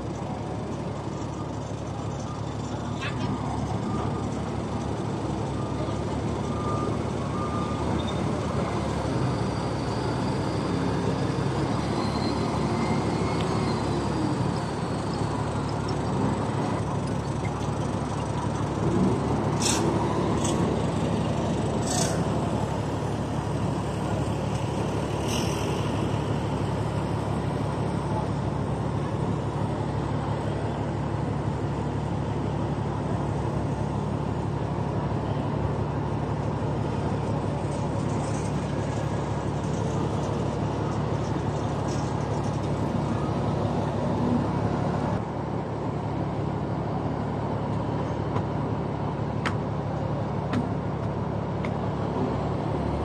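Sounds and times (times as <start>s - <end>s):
heavy diesel machinery droning: 0.0s - 53.0s.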